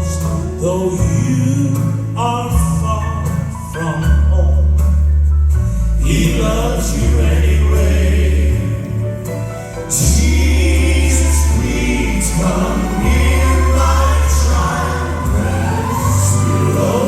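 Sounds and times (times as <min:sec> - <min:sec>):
male quartet singing in harmony: 0:00.0 - 0:03.0, 0:06.0 - 0:17.0
backing music with deep bass: 0:00.0 - 0:17.0.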